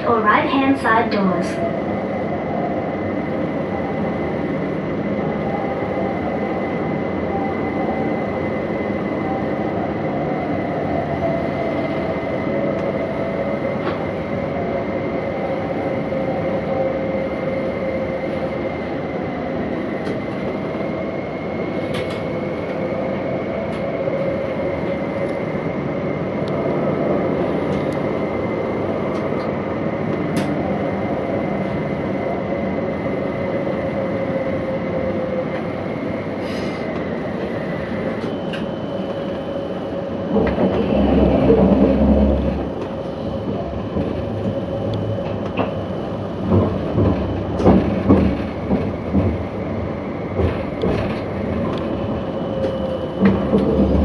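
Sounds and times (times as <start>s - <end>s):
tram rolling rumble: 0.0s - 54.0s.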